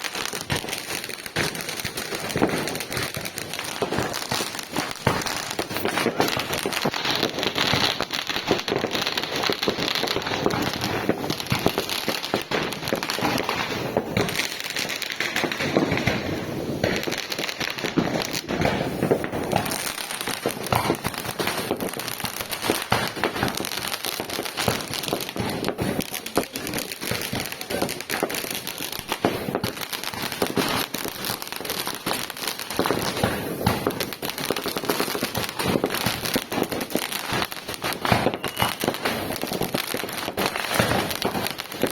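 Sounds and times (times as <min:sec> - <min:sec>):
firework bangs and crackling: 0:00.0 - 0:41.9.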